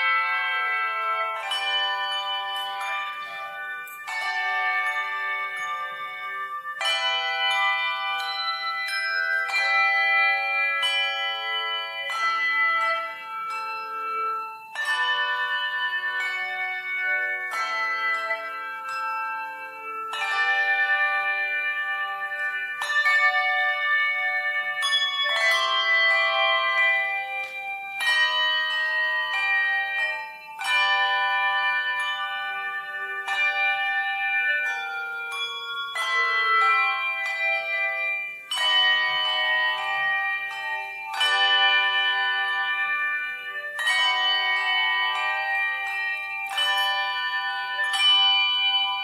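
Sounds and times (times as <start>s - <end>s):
slow bell-toned chords: 0.0s - 49.0s.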